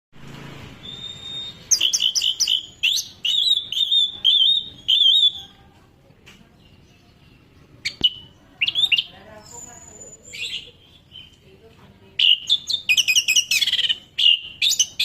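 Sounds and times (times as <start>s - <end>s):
bird singing warbled phrases: 0.8s - 5.8s, 6.4s - 15.0s.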